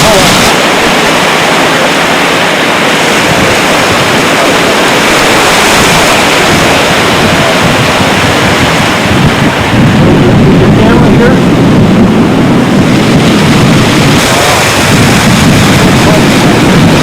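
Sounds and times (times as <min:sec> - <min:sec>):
helicopter rotor and turbine rushing: 0:00.0 - 0:17.0.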